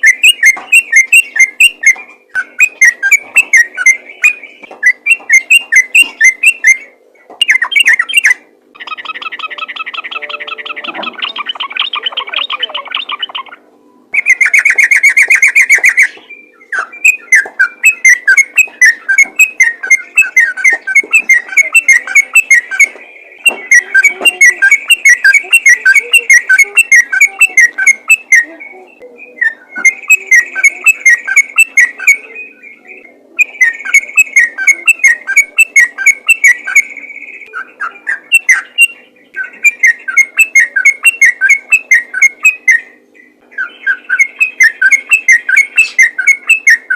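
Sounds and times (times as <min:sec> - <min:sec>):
bird singing bubbling notes: 0:00.0 - 0:46.9.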